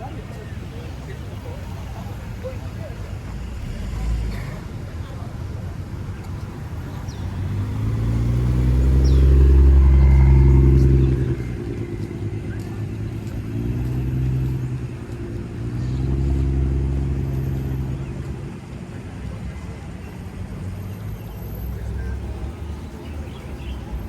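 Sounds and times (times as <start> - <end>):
car engines with loud exhausts: 0.0 - 24.0.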